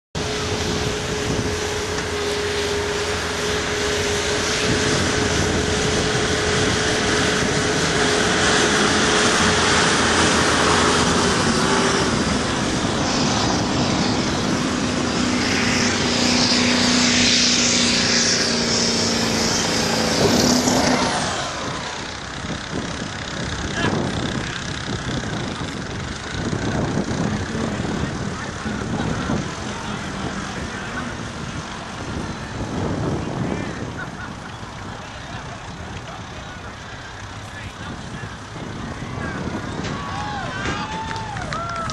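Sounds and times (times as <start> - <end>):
diesel truck engine drone: 0.1 - 41.9.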